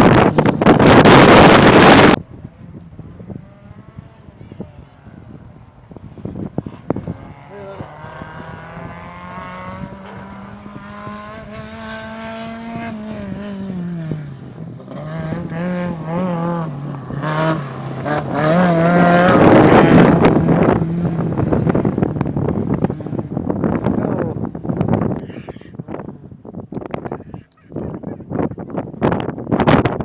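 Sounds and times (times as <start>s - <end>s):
rally car engine: 0.0s - 30.0s.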